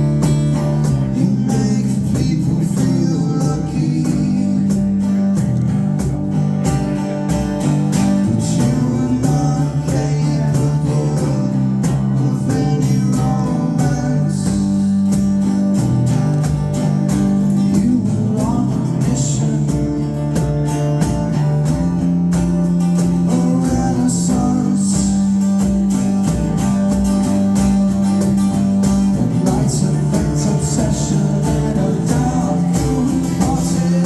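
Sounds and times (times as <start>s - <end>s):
live band playing: 0.0s - 34.0s
strummed guitar: 0.0s - 34.0s.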